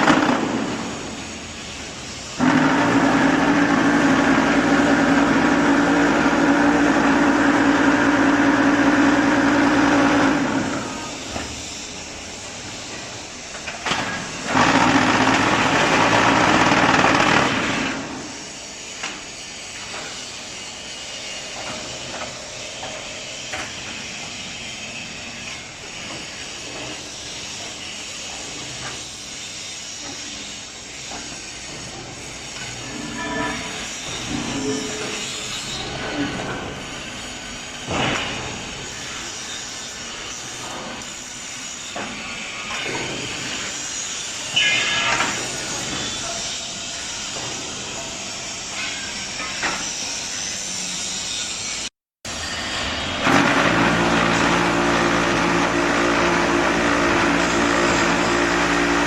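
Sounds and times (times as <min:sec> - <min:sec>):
machine background noise: 0:00.0 - 0:59.0.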